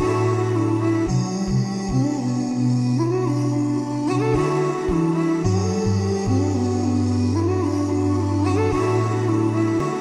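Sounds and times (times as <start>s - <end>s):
slow melody of held notes: 0.0s - 10.0s.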